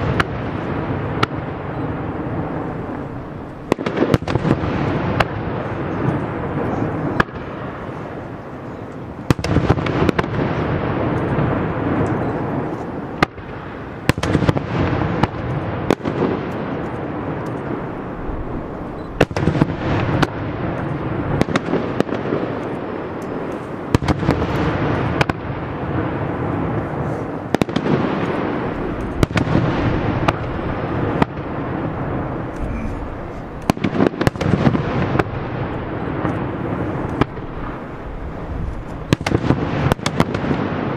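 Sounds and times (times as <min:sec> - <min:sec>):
fireworks bursting with bangs: 0:00.0 - 0:40.9
fireworks rumble and crackle: 0:00.0 - 0:40.9.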